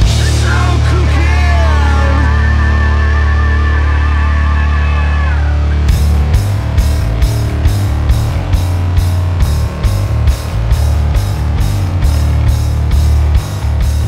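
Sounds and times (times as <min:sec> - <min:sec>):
rock band playing: 0:00.0 - 0:14.0
wavering guitar line: 0:00.0 - 0:14.0.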